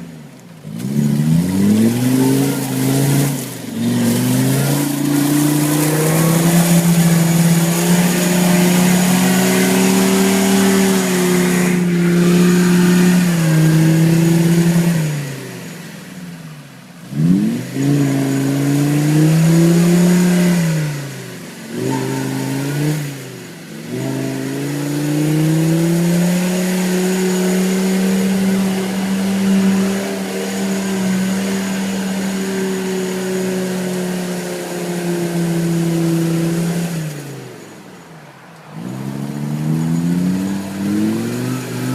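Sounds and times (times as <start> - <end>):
diesel engine revving under load: 0.0 - 41.9.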